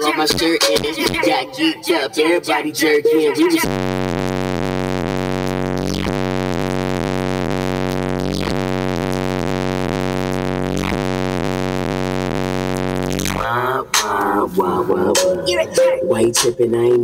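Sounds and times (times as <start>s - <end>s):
buzzy low bass tone: 3.3s - 17.0s.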